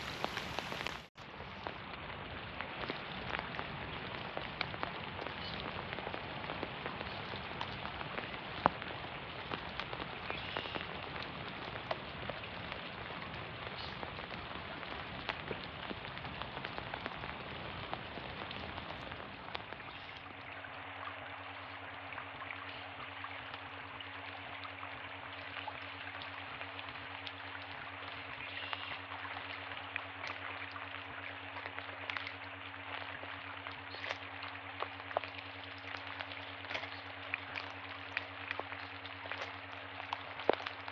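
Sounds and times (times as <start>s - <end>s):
close raindrops ticking: 0.0s - 40.9s
rain falling on trees and pond: 0.0s - 40.9s.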